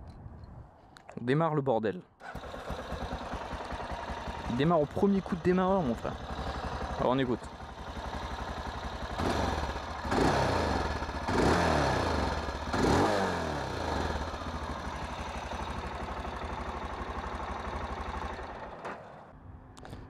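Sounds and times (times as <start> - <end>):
motorcycle engine idling and revving: 2.2 - 19.5.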